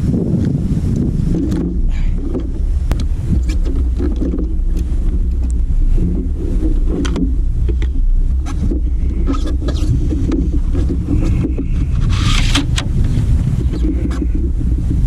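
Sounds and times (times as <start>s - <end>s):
wind rumbling on microphone: 0.0s - 15.0s
sharp clicks and knocks: 0.4s - 15.0s.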